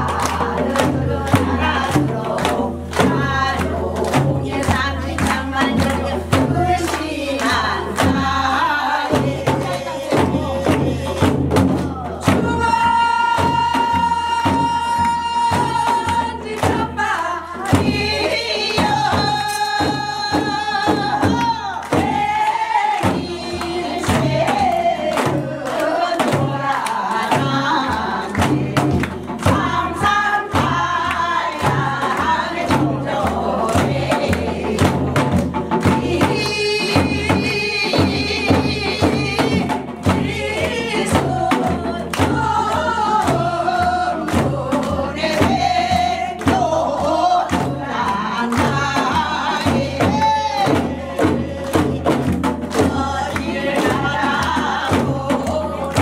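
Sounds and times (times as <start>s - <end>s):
drums beating: 0.0s - 56.0s
women singing together: 0.0s - 56.0s.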